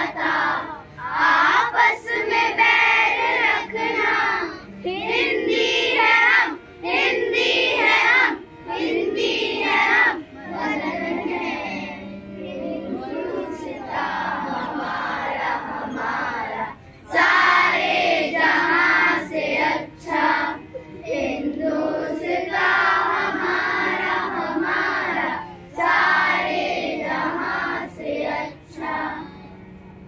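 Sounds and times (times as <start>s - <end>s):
children singing: 0.0s - 29.5s.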